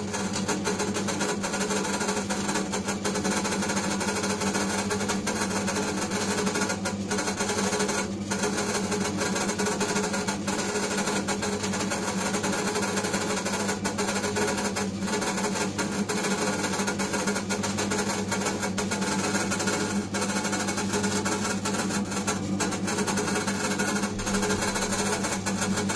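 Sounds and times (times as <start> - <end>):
dough-kneading machine humming: 0.0 - 25.9.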